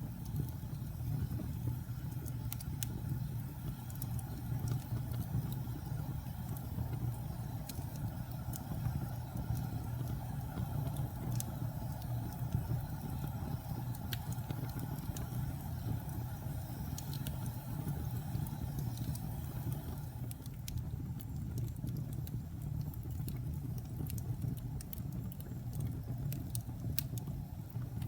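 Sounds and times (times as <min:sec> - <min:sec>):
fire crackling and popping: 0:00.0 - 0:28.0
fire low rumble: 0:00.0 - 0:28.0.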